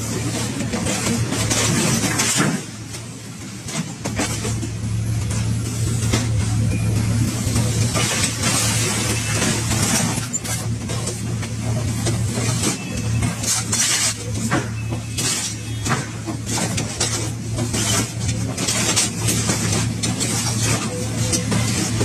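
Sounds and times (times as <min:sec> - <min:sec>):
excavator engine humming: 0:00.0 - 0:22.0
metal crunching and scraping: 0:00.0 - 0:22.0.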